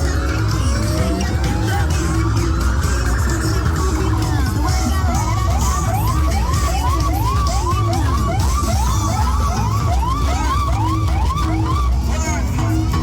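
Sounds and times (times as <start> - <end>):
bass-heavy music: 0.0 - 13.0
siren-like whoop: 0.0 - 13.0.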